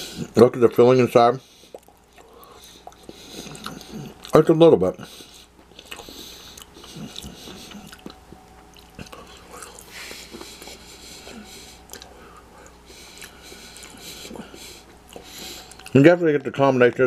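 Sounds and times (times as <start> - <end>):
man chewing food: 1.4 - 17.0.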